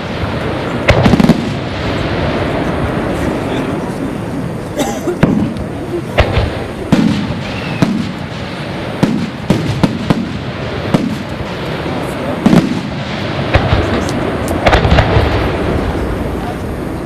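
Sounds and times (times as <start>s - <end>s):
fireworks bursting with bangs: 0.0s - 17.0s
steady hiss: 0.0s - 17.0s.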